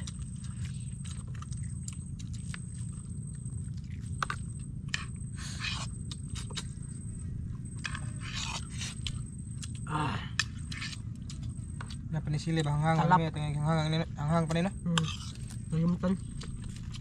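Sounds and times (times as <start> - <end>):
people chewing and crunching: 0.0 - 17.0
steady low rumble: 0.0 - 17.0.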